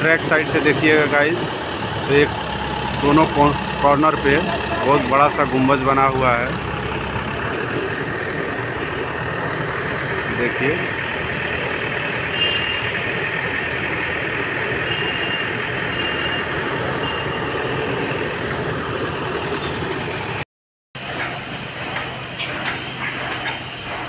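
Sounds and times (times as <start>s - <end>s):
heavy machine engine running: 0.0s - 20.4s, 21.0s - 24.0s.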